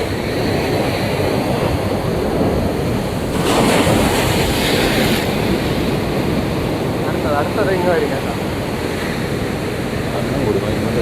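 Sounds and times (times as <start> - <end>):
rough sea surf: 0.0 - 11.0
wave breaking: 0.0 - 11.0.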